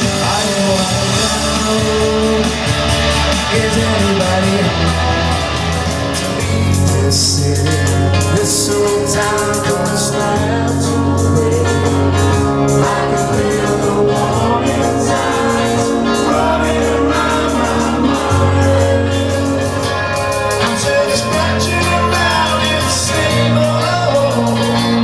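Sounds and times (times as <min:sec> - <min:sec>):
song with singing and beat: 0:00.0 - 0:25.0.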